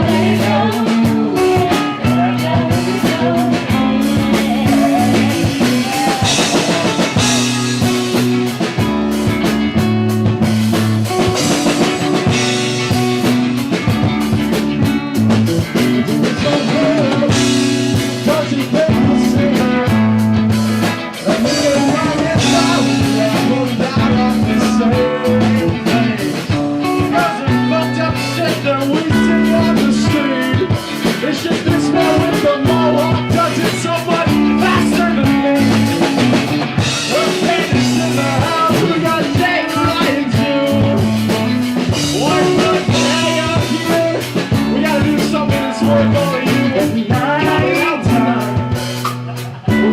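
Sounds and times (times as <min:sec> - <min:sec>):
person singing: 0:00.0 - 0:08.5, 0:15.7 - 0:20.2, 0:21.0 - 0:49.9
bass guitar: 0:00.0 - 0:49.9
drum kit: 0:00.0 - 0:49.9
electric guitar: 0:00.0 - 0:49.9.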